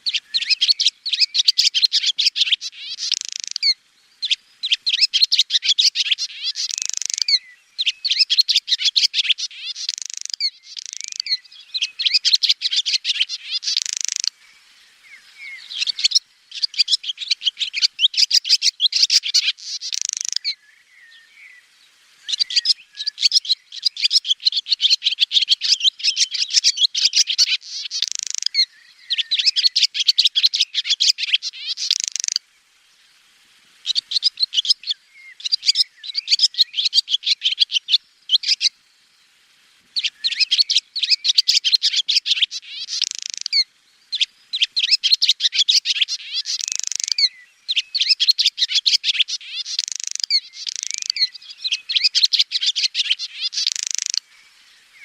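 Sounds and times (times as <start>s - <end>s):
swallow twittering: 0.0s - 21.5s, 22.3s - 32.4s, 33.8s - 38.8s, 40.0s - 55.0s.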